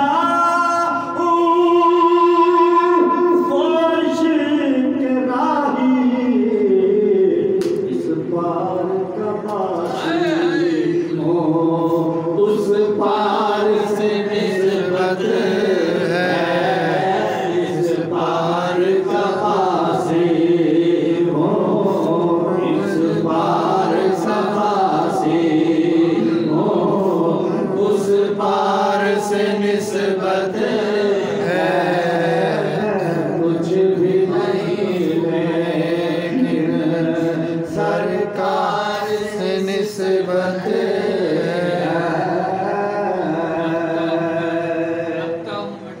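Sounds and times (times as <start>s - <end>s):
man singing into a microphone: 0.0s - 46.0s.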